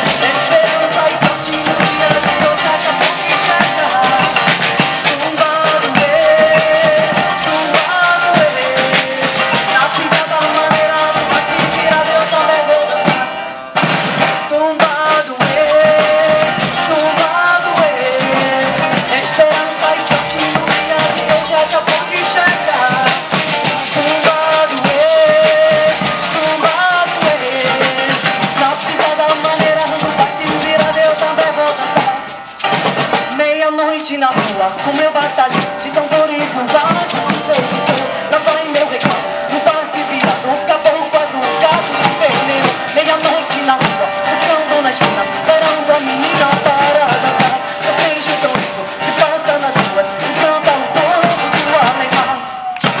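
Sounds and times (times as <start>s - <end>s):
woman singing: 0.0s - 13.4s, 14.5s - 32.6s, 33.2s - 53.0s
acoustic guitar: 0.0s - 53.0s
bass drums and percussion: 0.0s - 53.0s.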